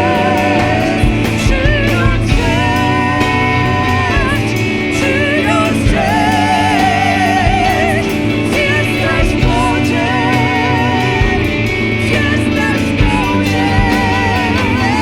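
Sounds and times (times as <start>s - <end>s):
drums keeping time: 0.0s - 15.0s
people singing long notes: 0.0s - 15.0s
sustained chords: 0.0s - 15.0s.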